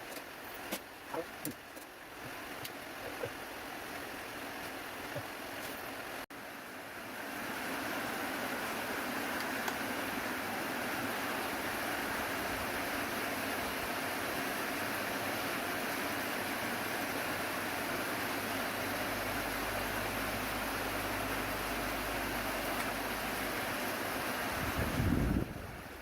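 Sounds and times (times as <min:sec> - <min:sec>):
fan blowing air: 0:00.0 - 0:26.0.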